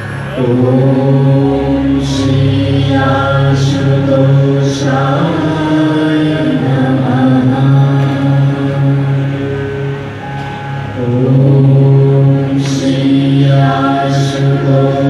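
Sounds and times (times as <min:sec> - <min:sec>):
voices chanting: 0:00.0 - 0:10.2, 0:10.8 - 0:15.0
steady low hum: 0:00.0 - 0:15.0.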